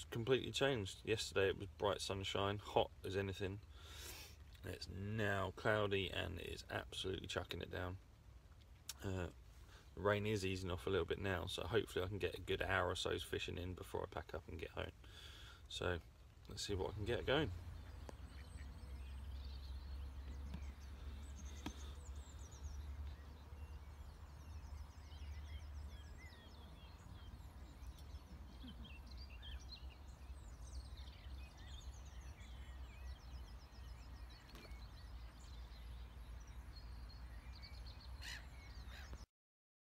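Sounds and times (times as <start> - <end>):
small birds singing: 0.0 - 39.3.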